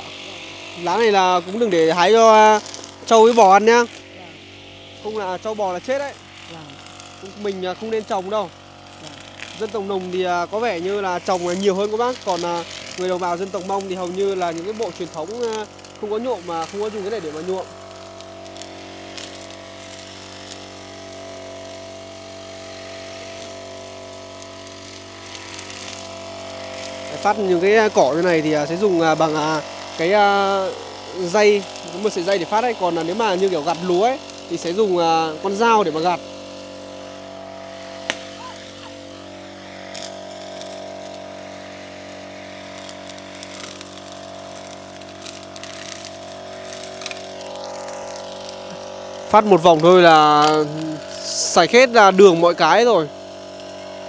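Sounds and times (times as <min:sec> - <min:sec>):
brush cutter engine running: 0:00.0 - 0:54.0
nylon string cutting grass: 0:00.0 - 0:54.0.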